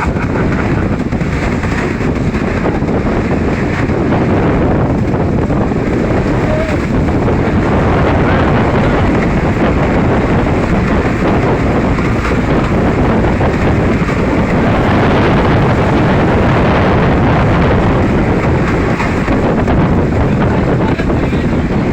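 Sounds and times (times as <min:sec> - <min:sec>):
boat engine and rushing water: 0:00.0 - 0:21.9
wind roaring on microphone: 0:00.0 - 0:21.9.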